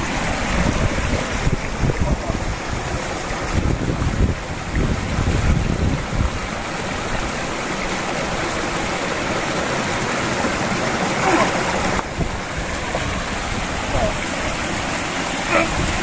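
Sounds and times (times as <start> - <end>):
wind buffeting microphone: 0.0 - 9.1, 10.0 - 16.0
stream rushing over rocks: 0.0 - 16.0.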